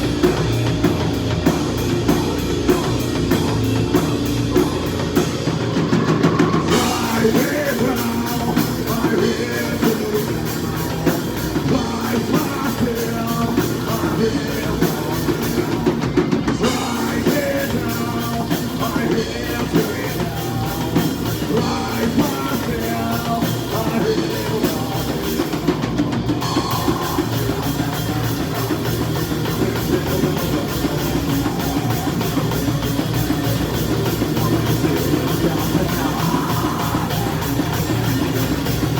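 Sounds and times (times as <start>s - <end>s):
heavy guitars: 0.0s - 38.9s
pounding drum kit: 0.0s - 38.9s
person singing: 1.5s - 38.9s.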